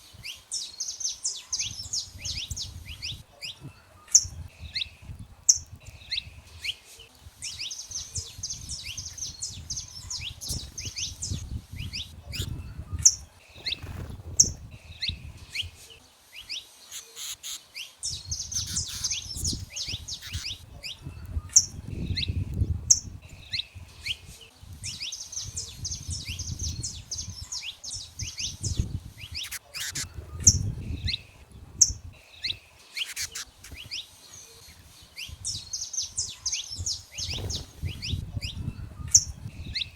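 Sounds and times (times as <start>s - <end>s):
finch chirps: 0.0s - 39.9s
finches trilling song: 0.0s - 39.9s.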